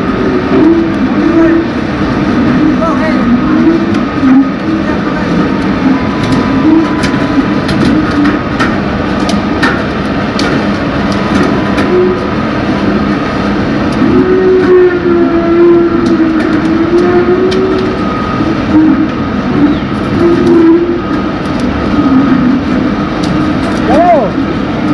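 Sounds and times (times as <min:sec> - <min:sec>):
motor whine wavering in pitch: 0:00.0 - 0:24.9.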